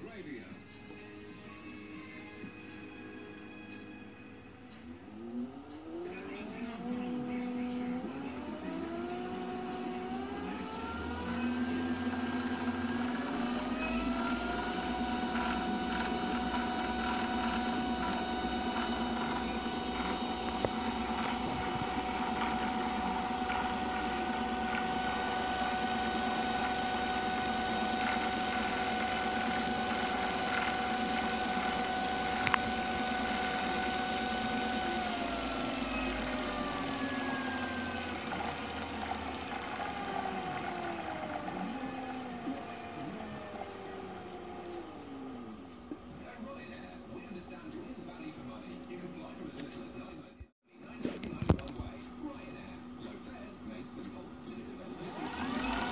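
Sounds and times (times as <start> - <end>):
lathe motor whining: 2.4 - 50.4, 51.5 - 55.9.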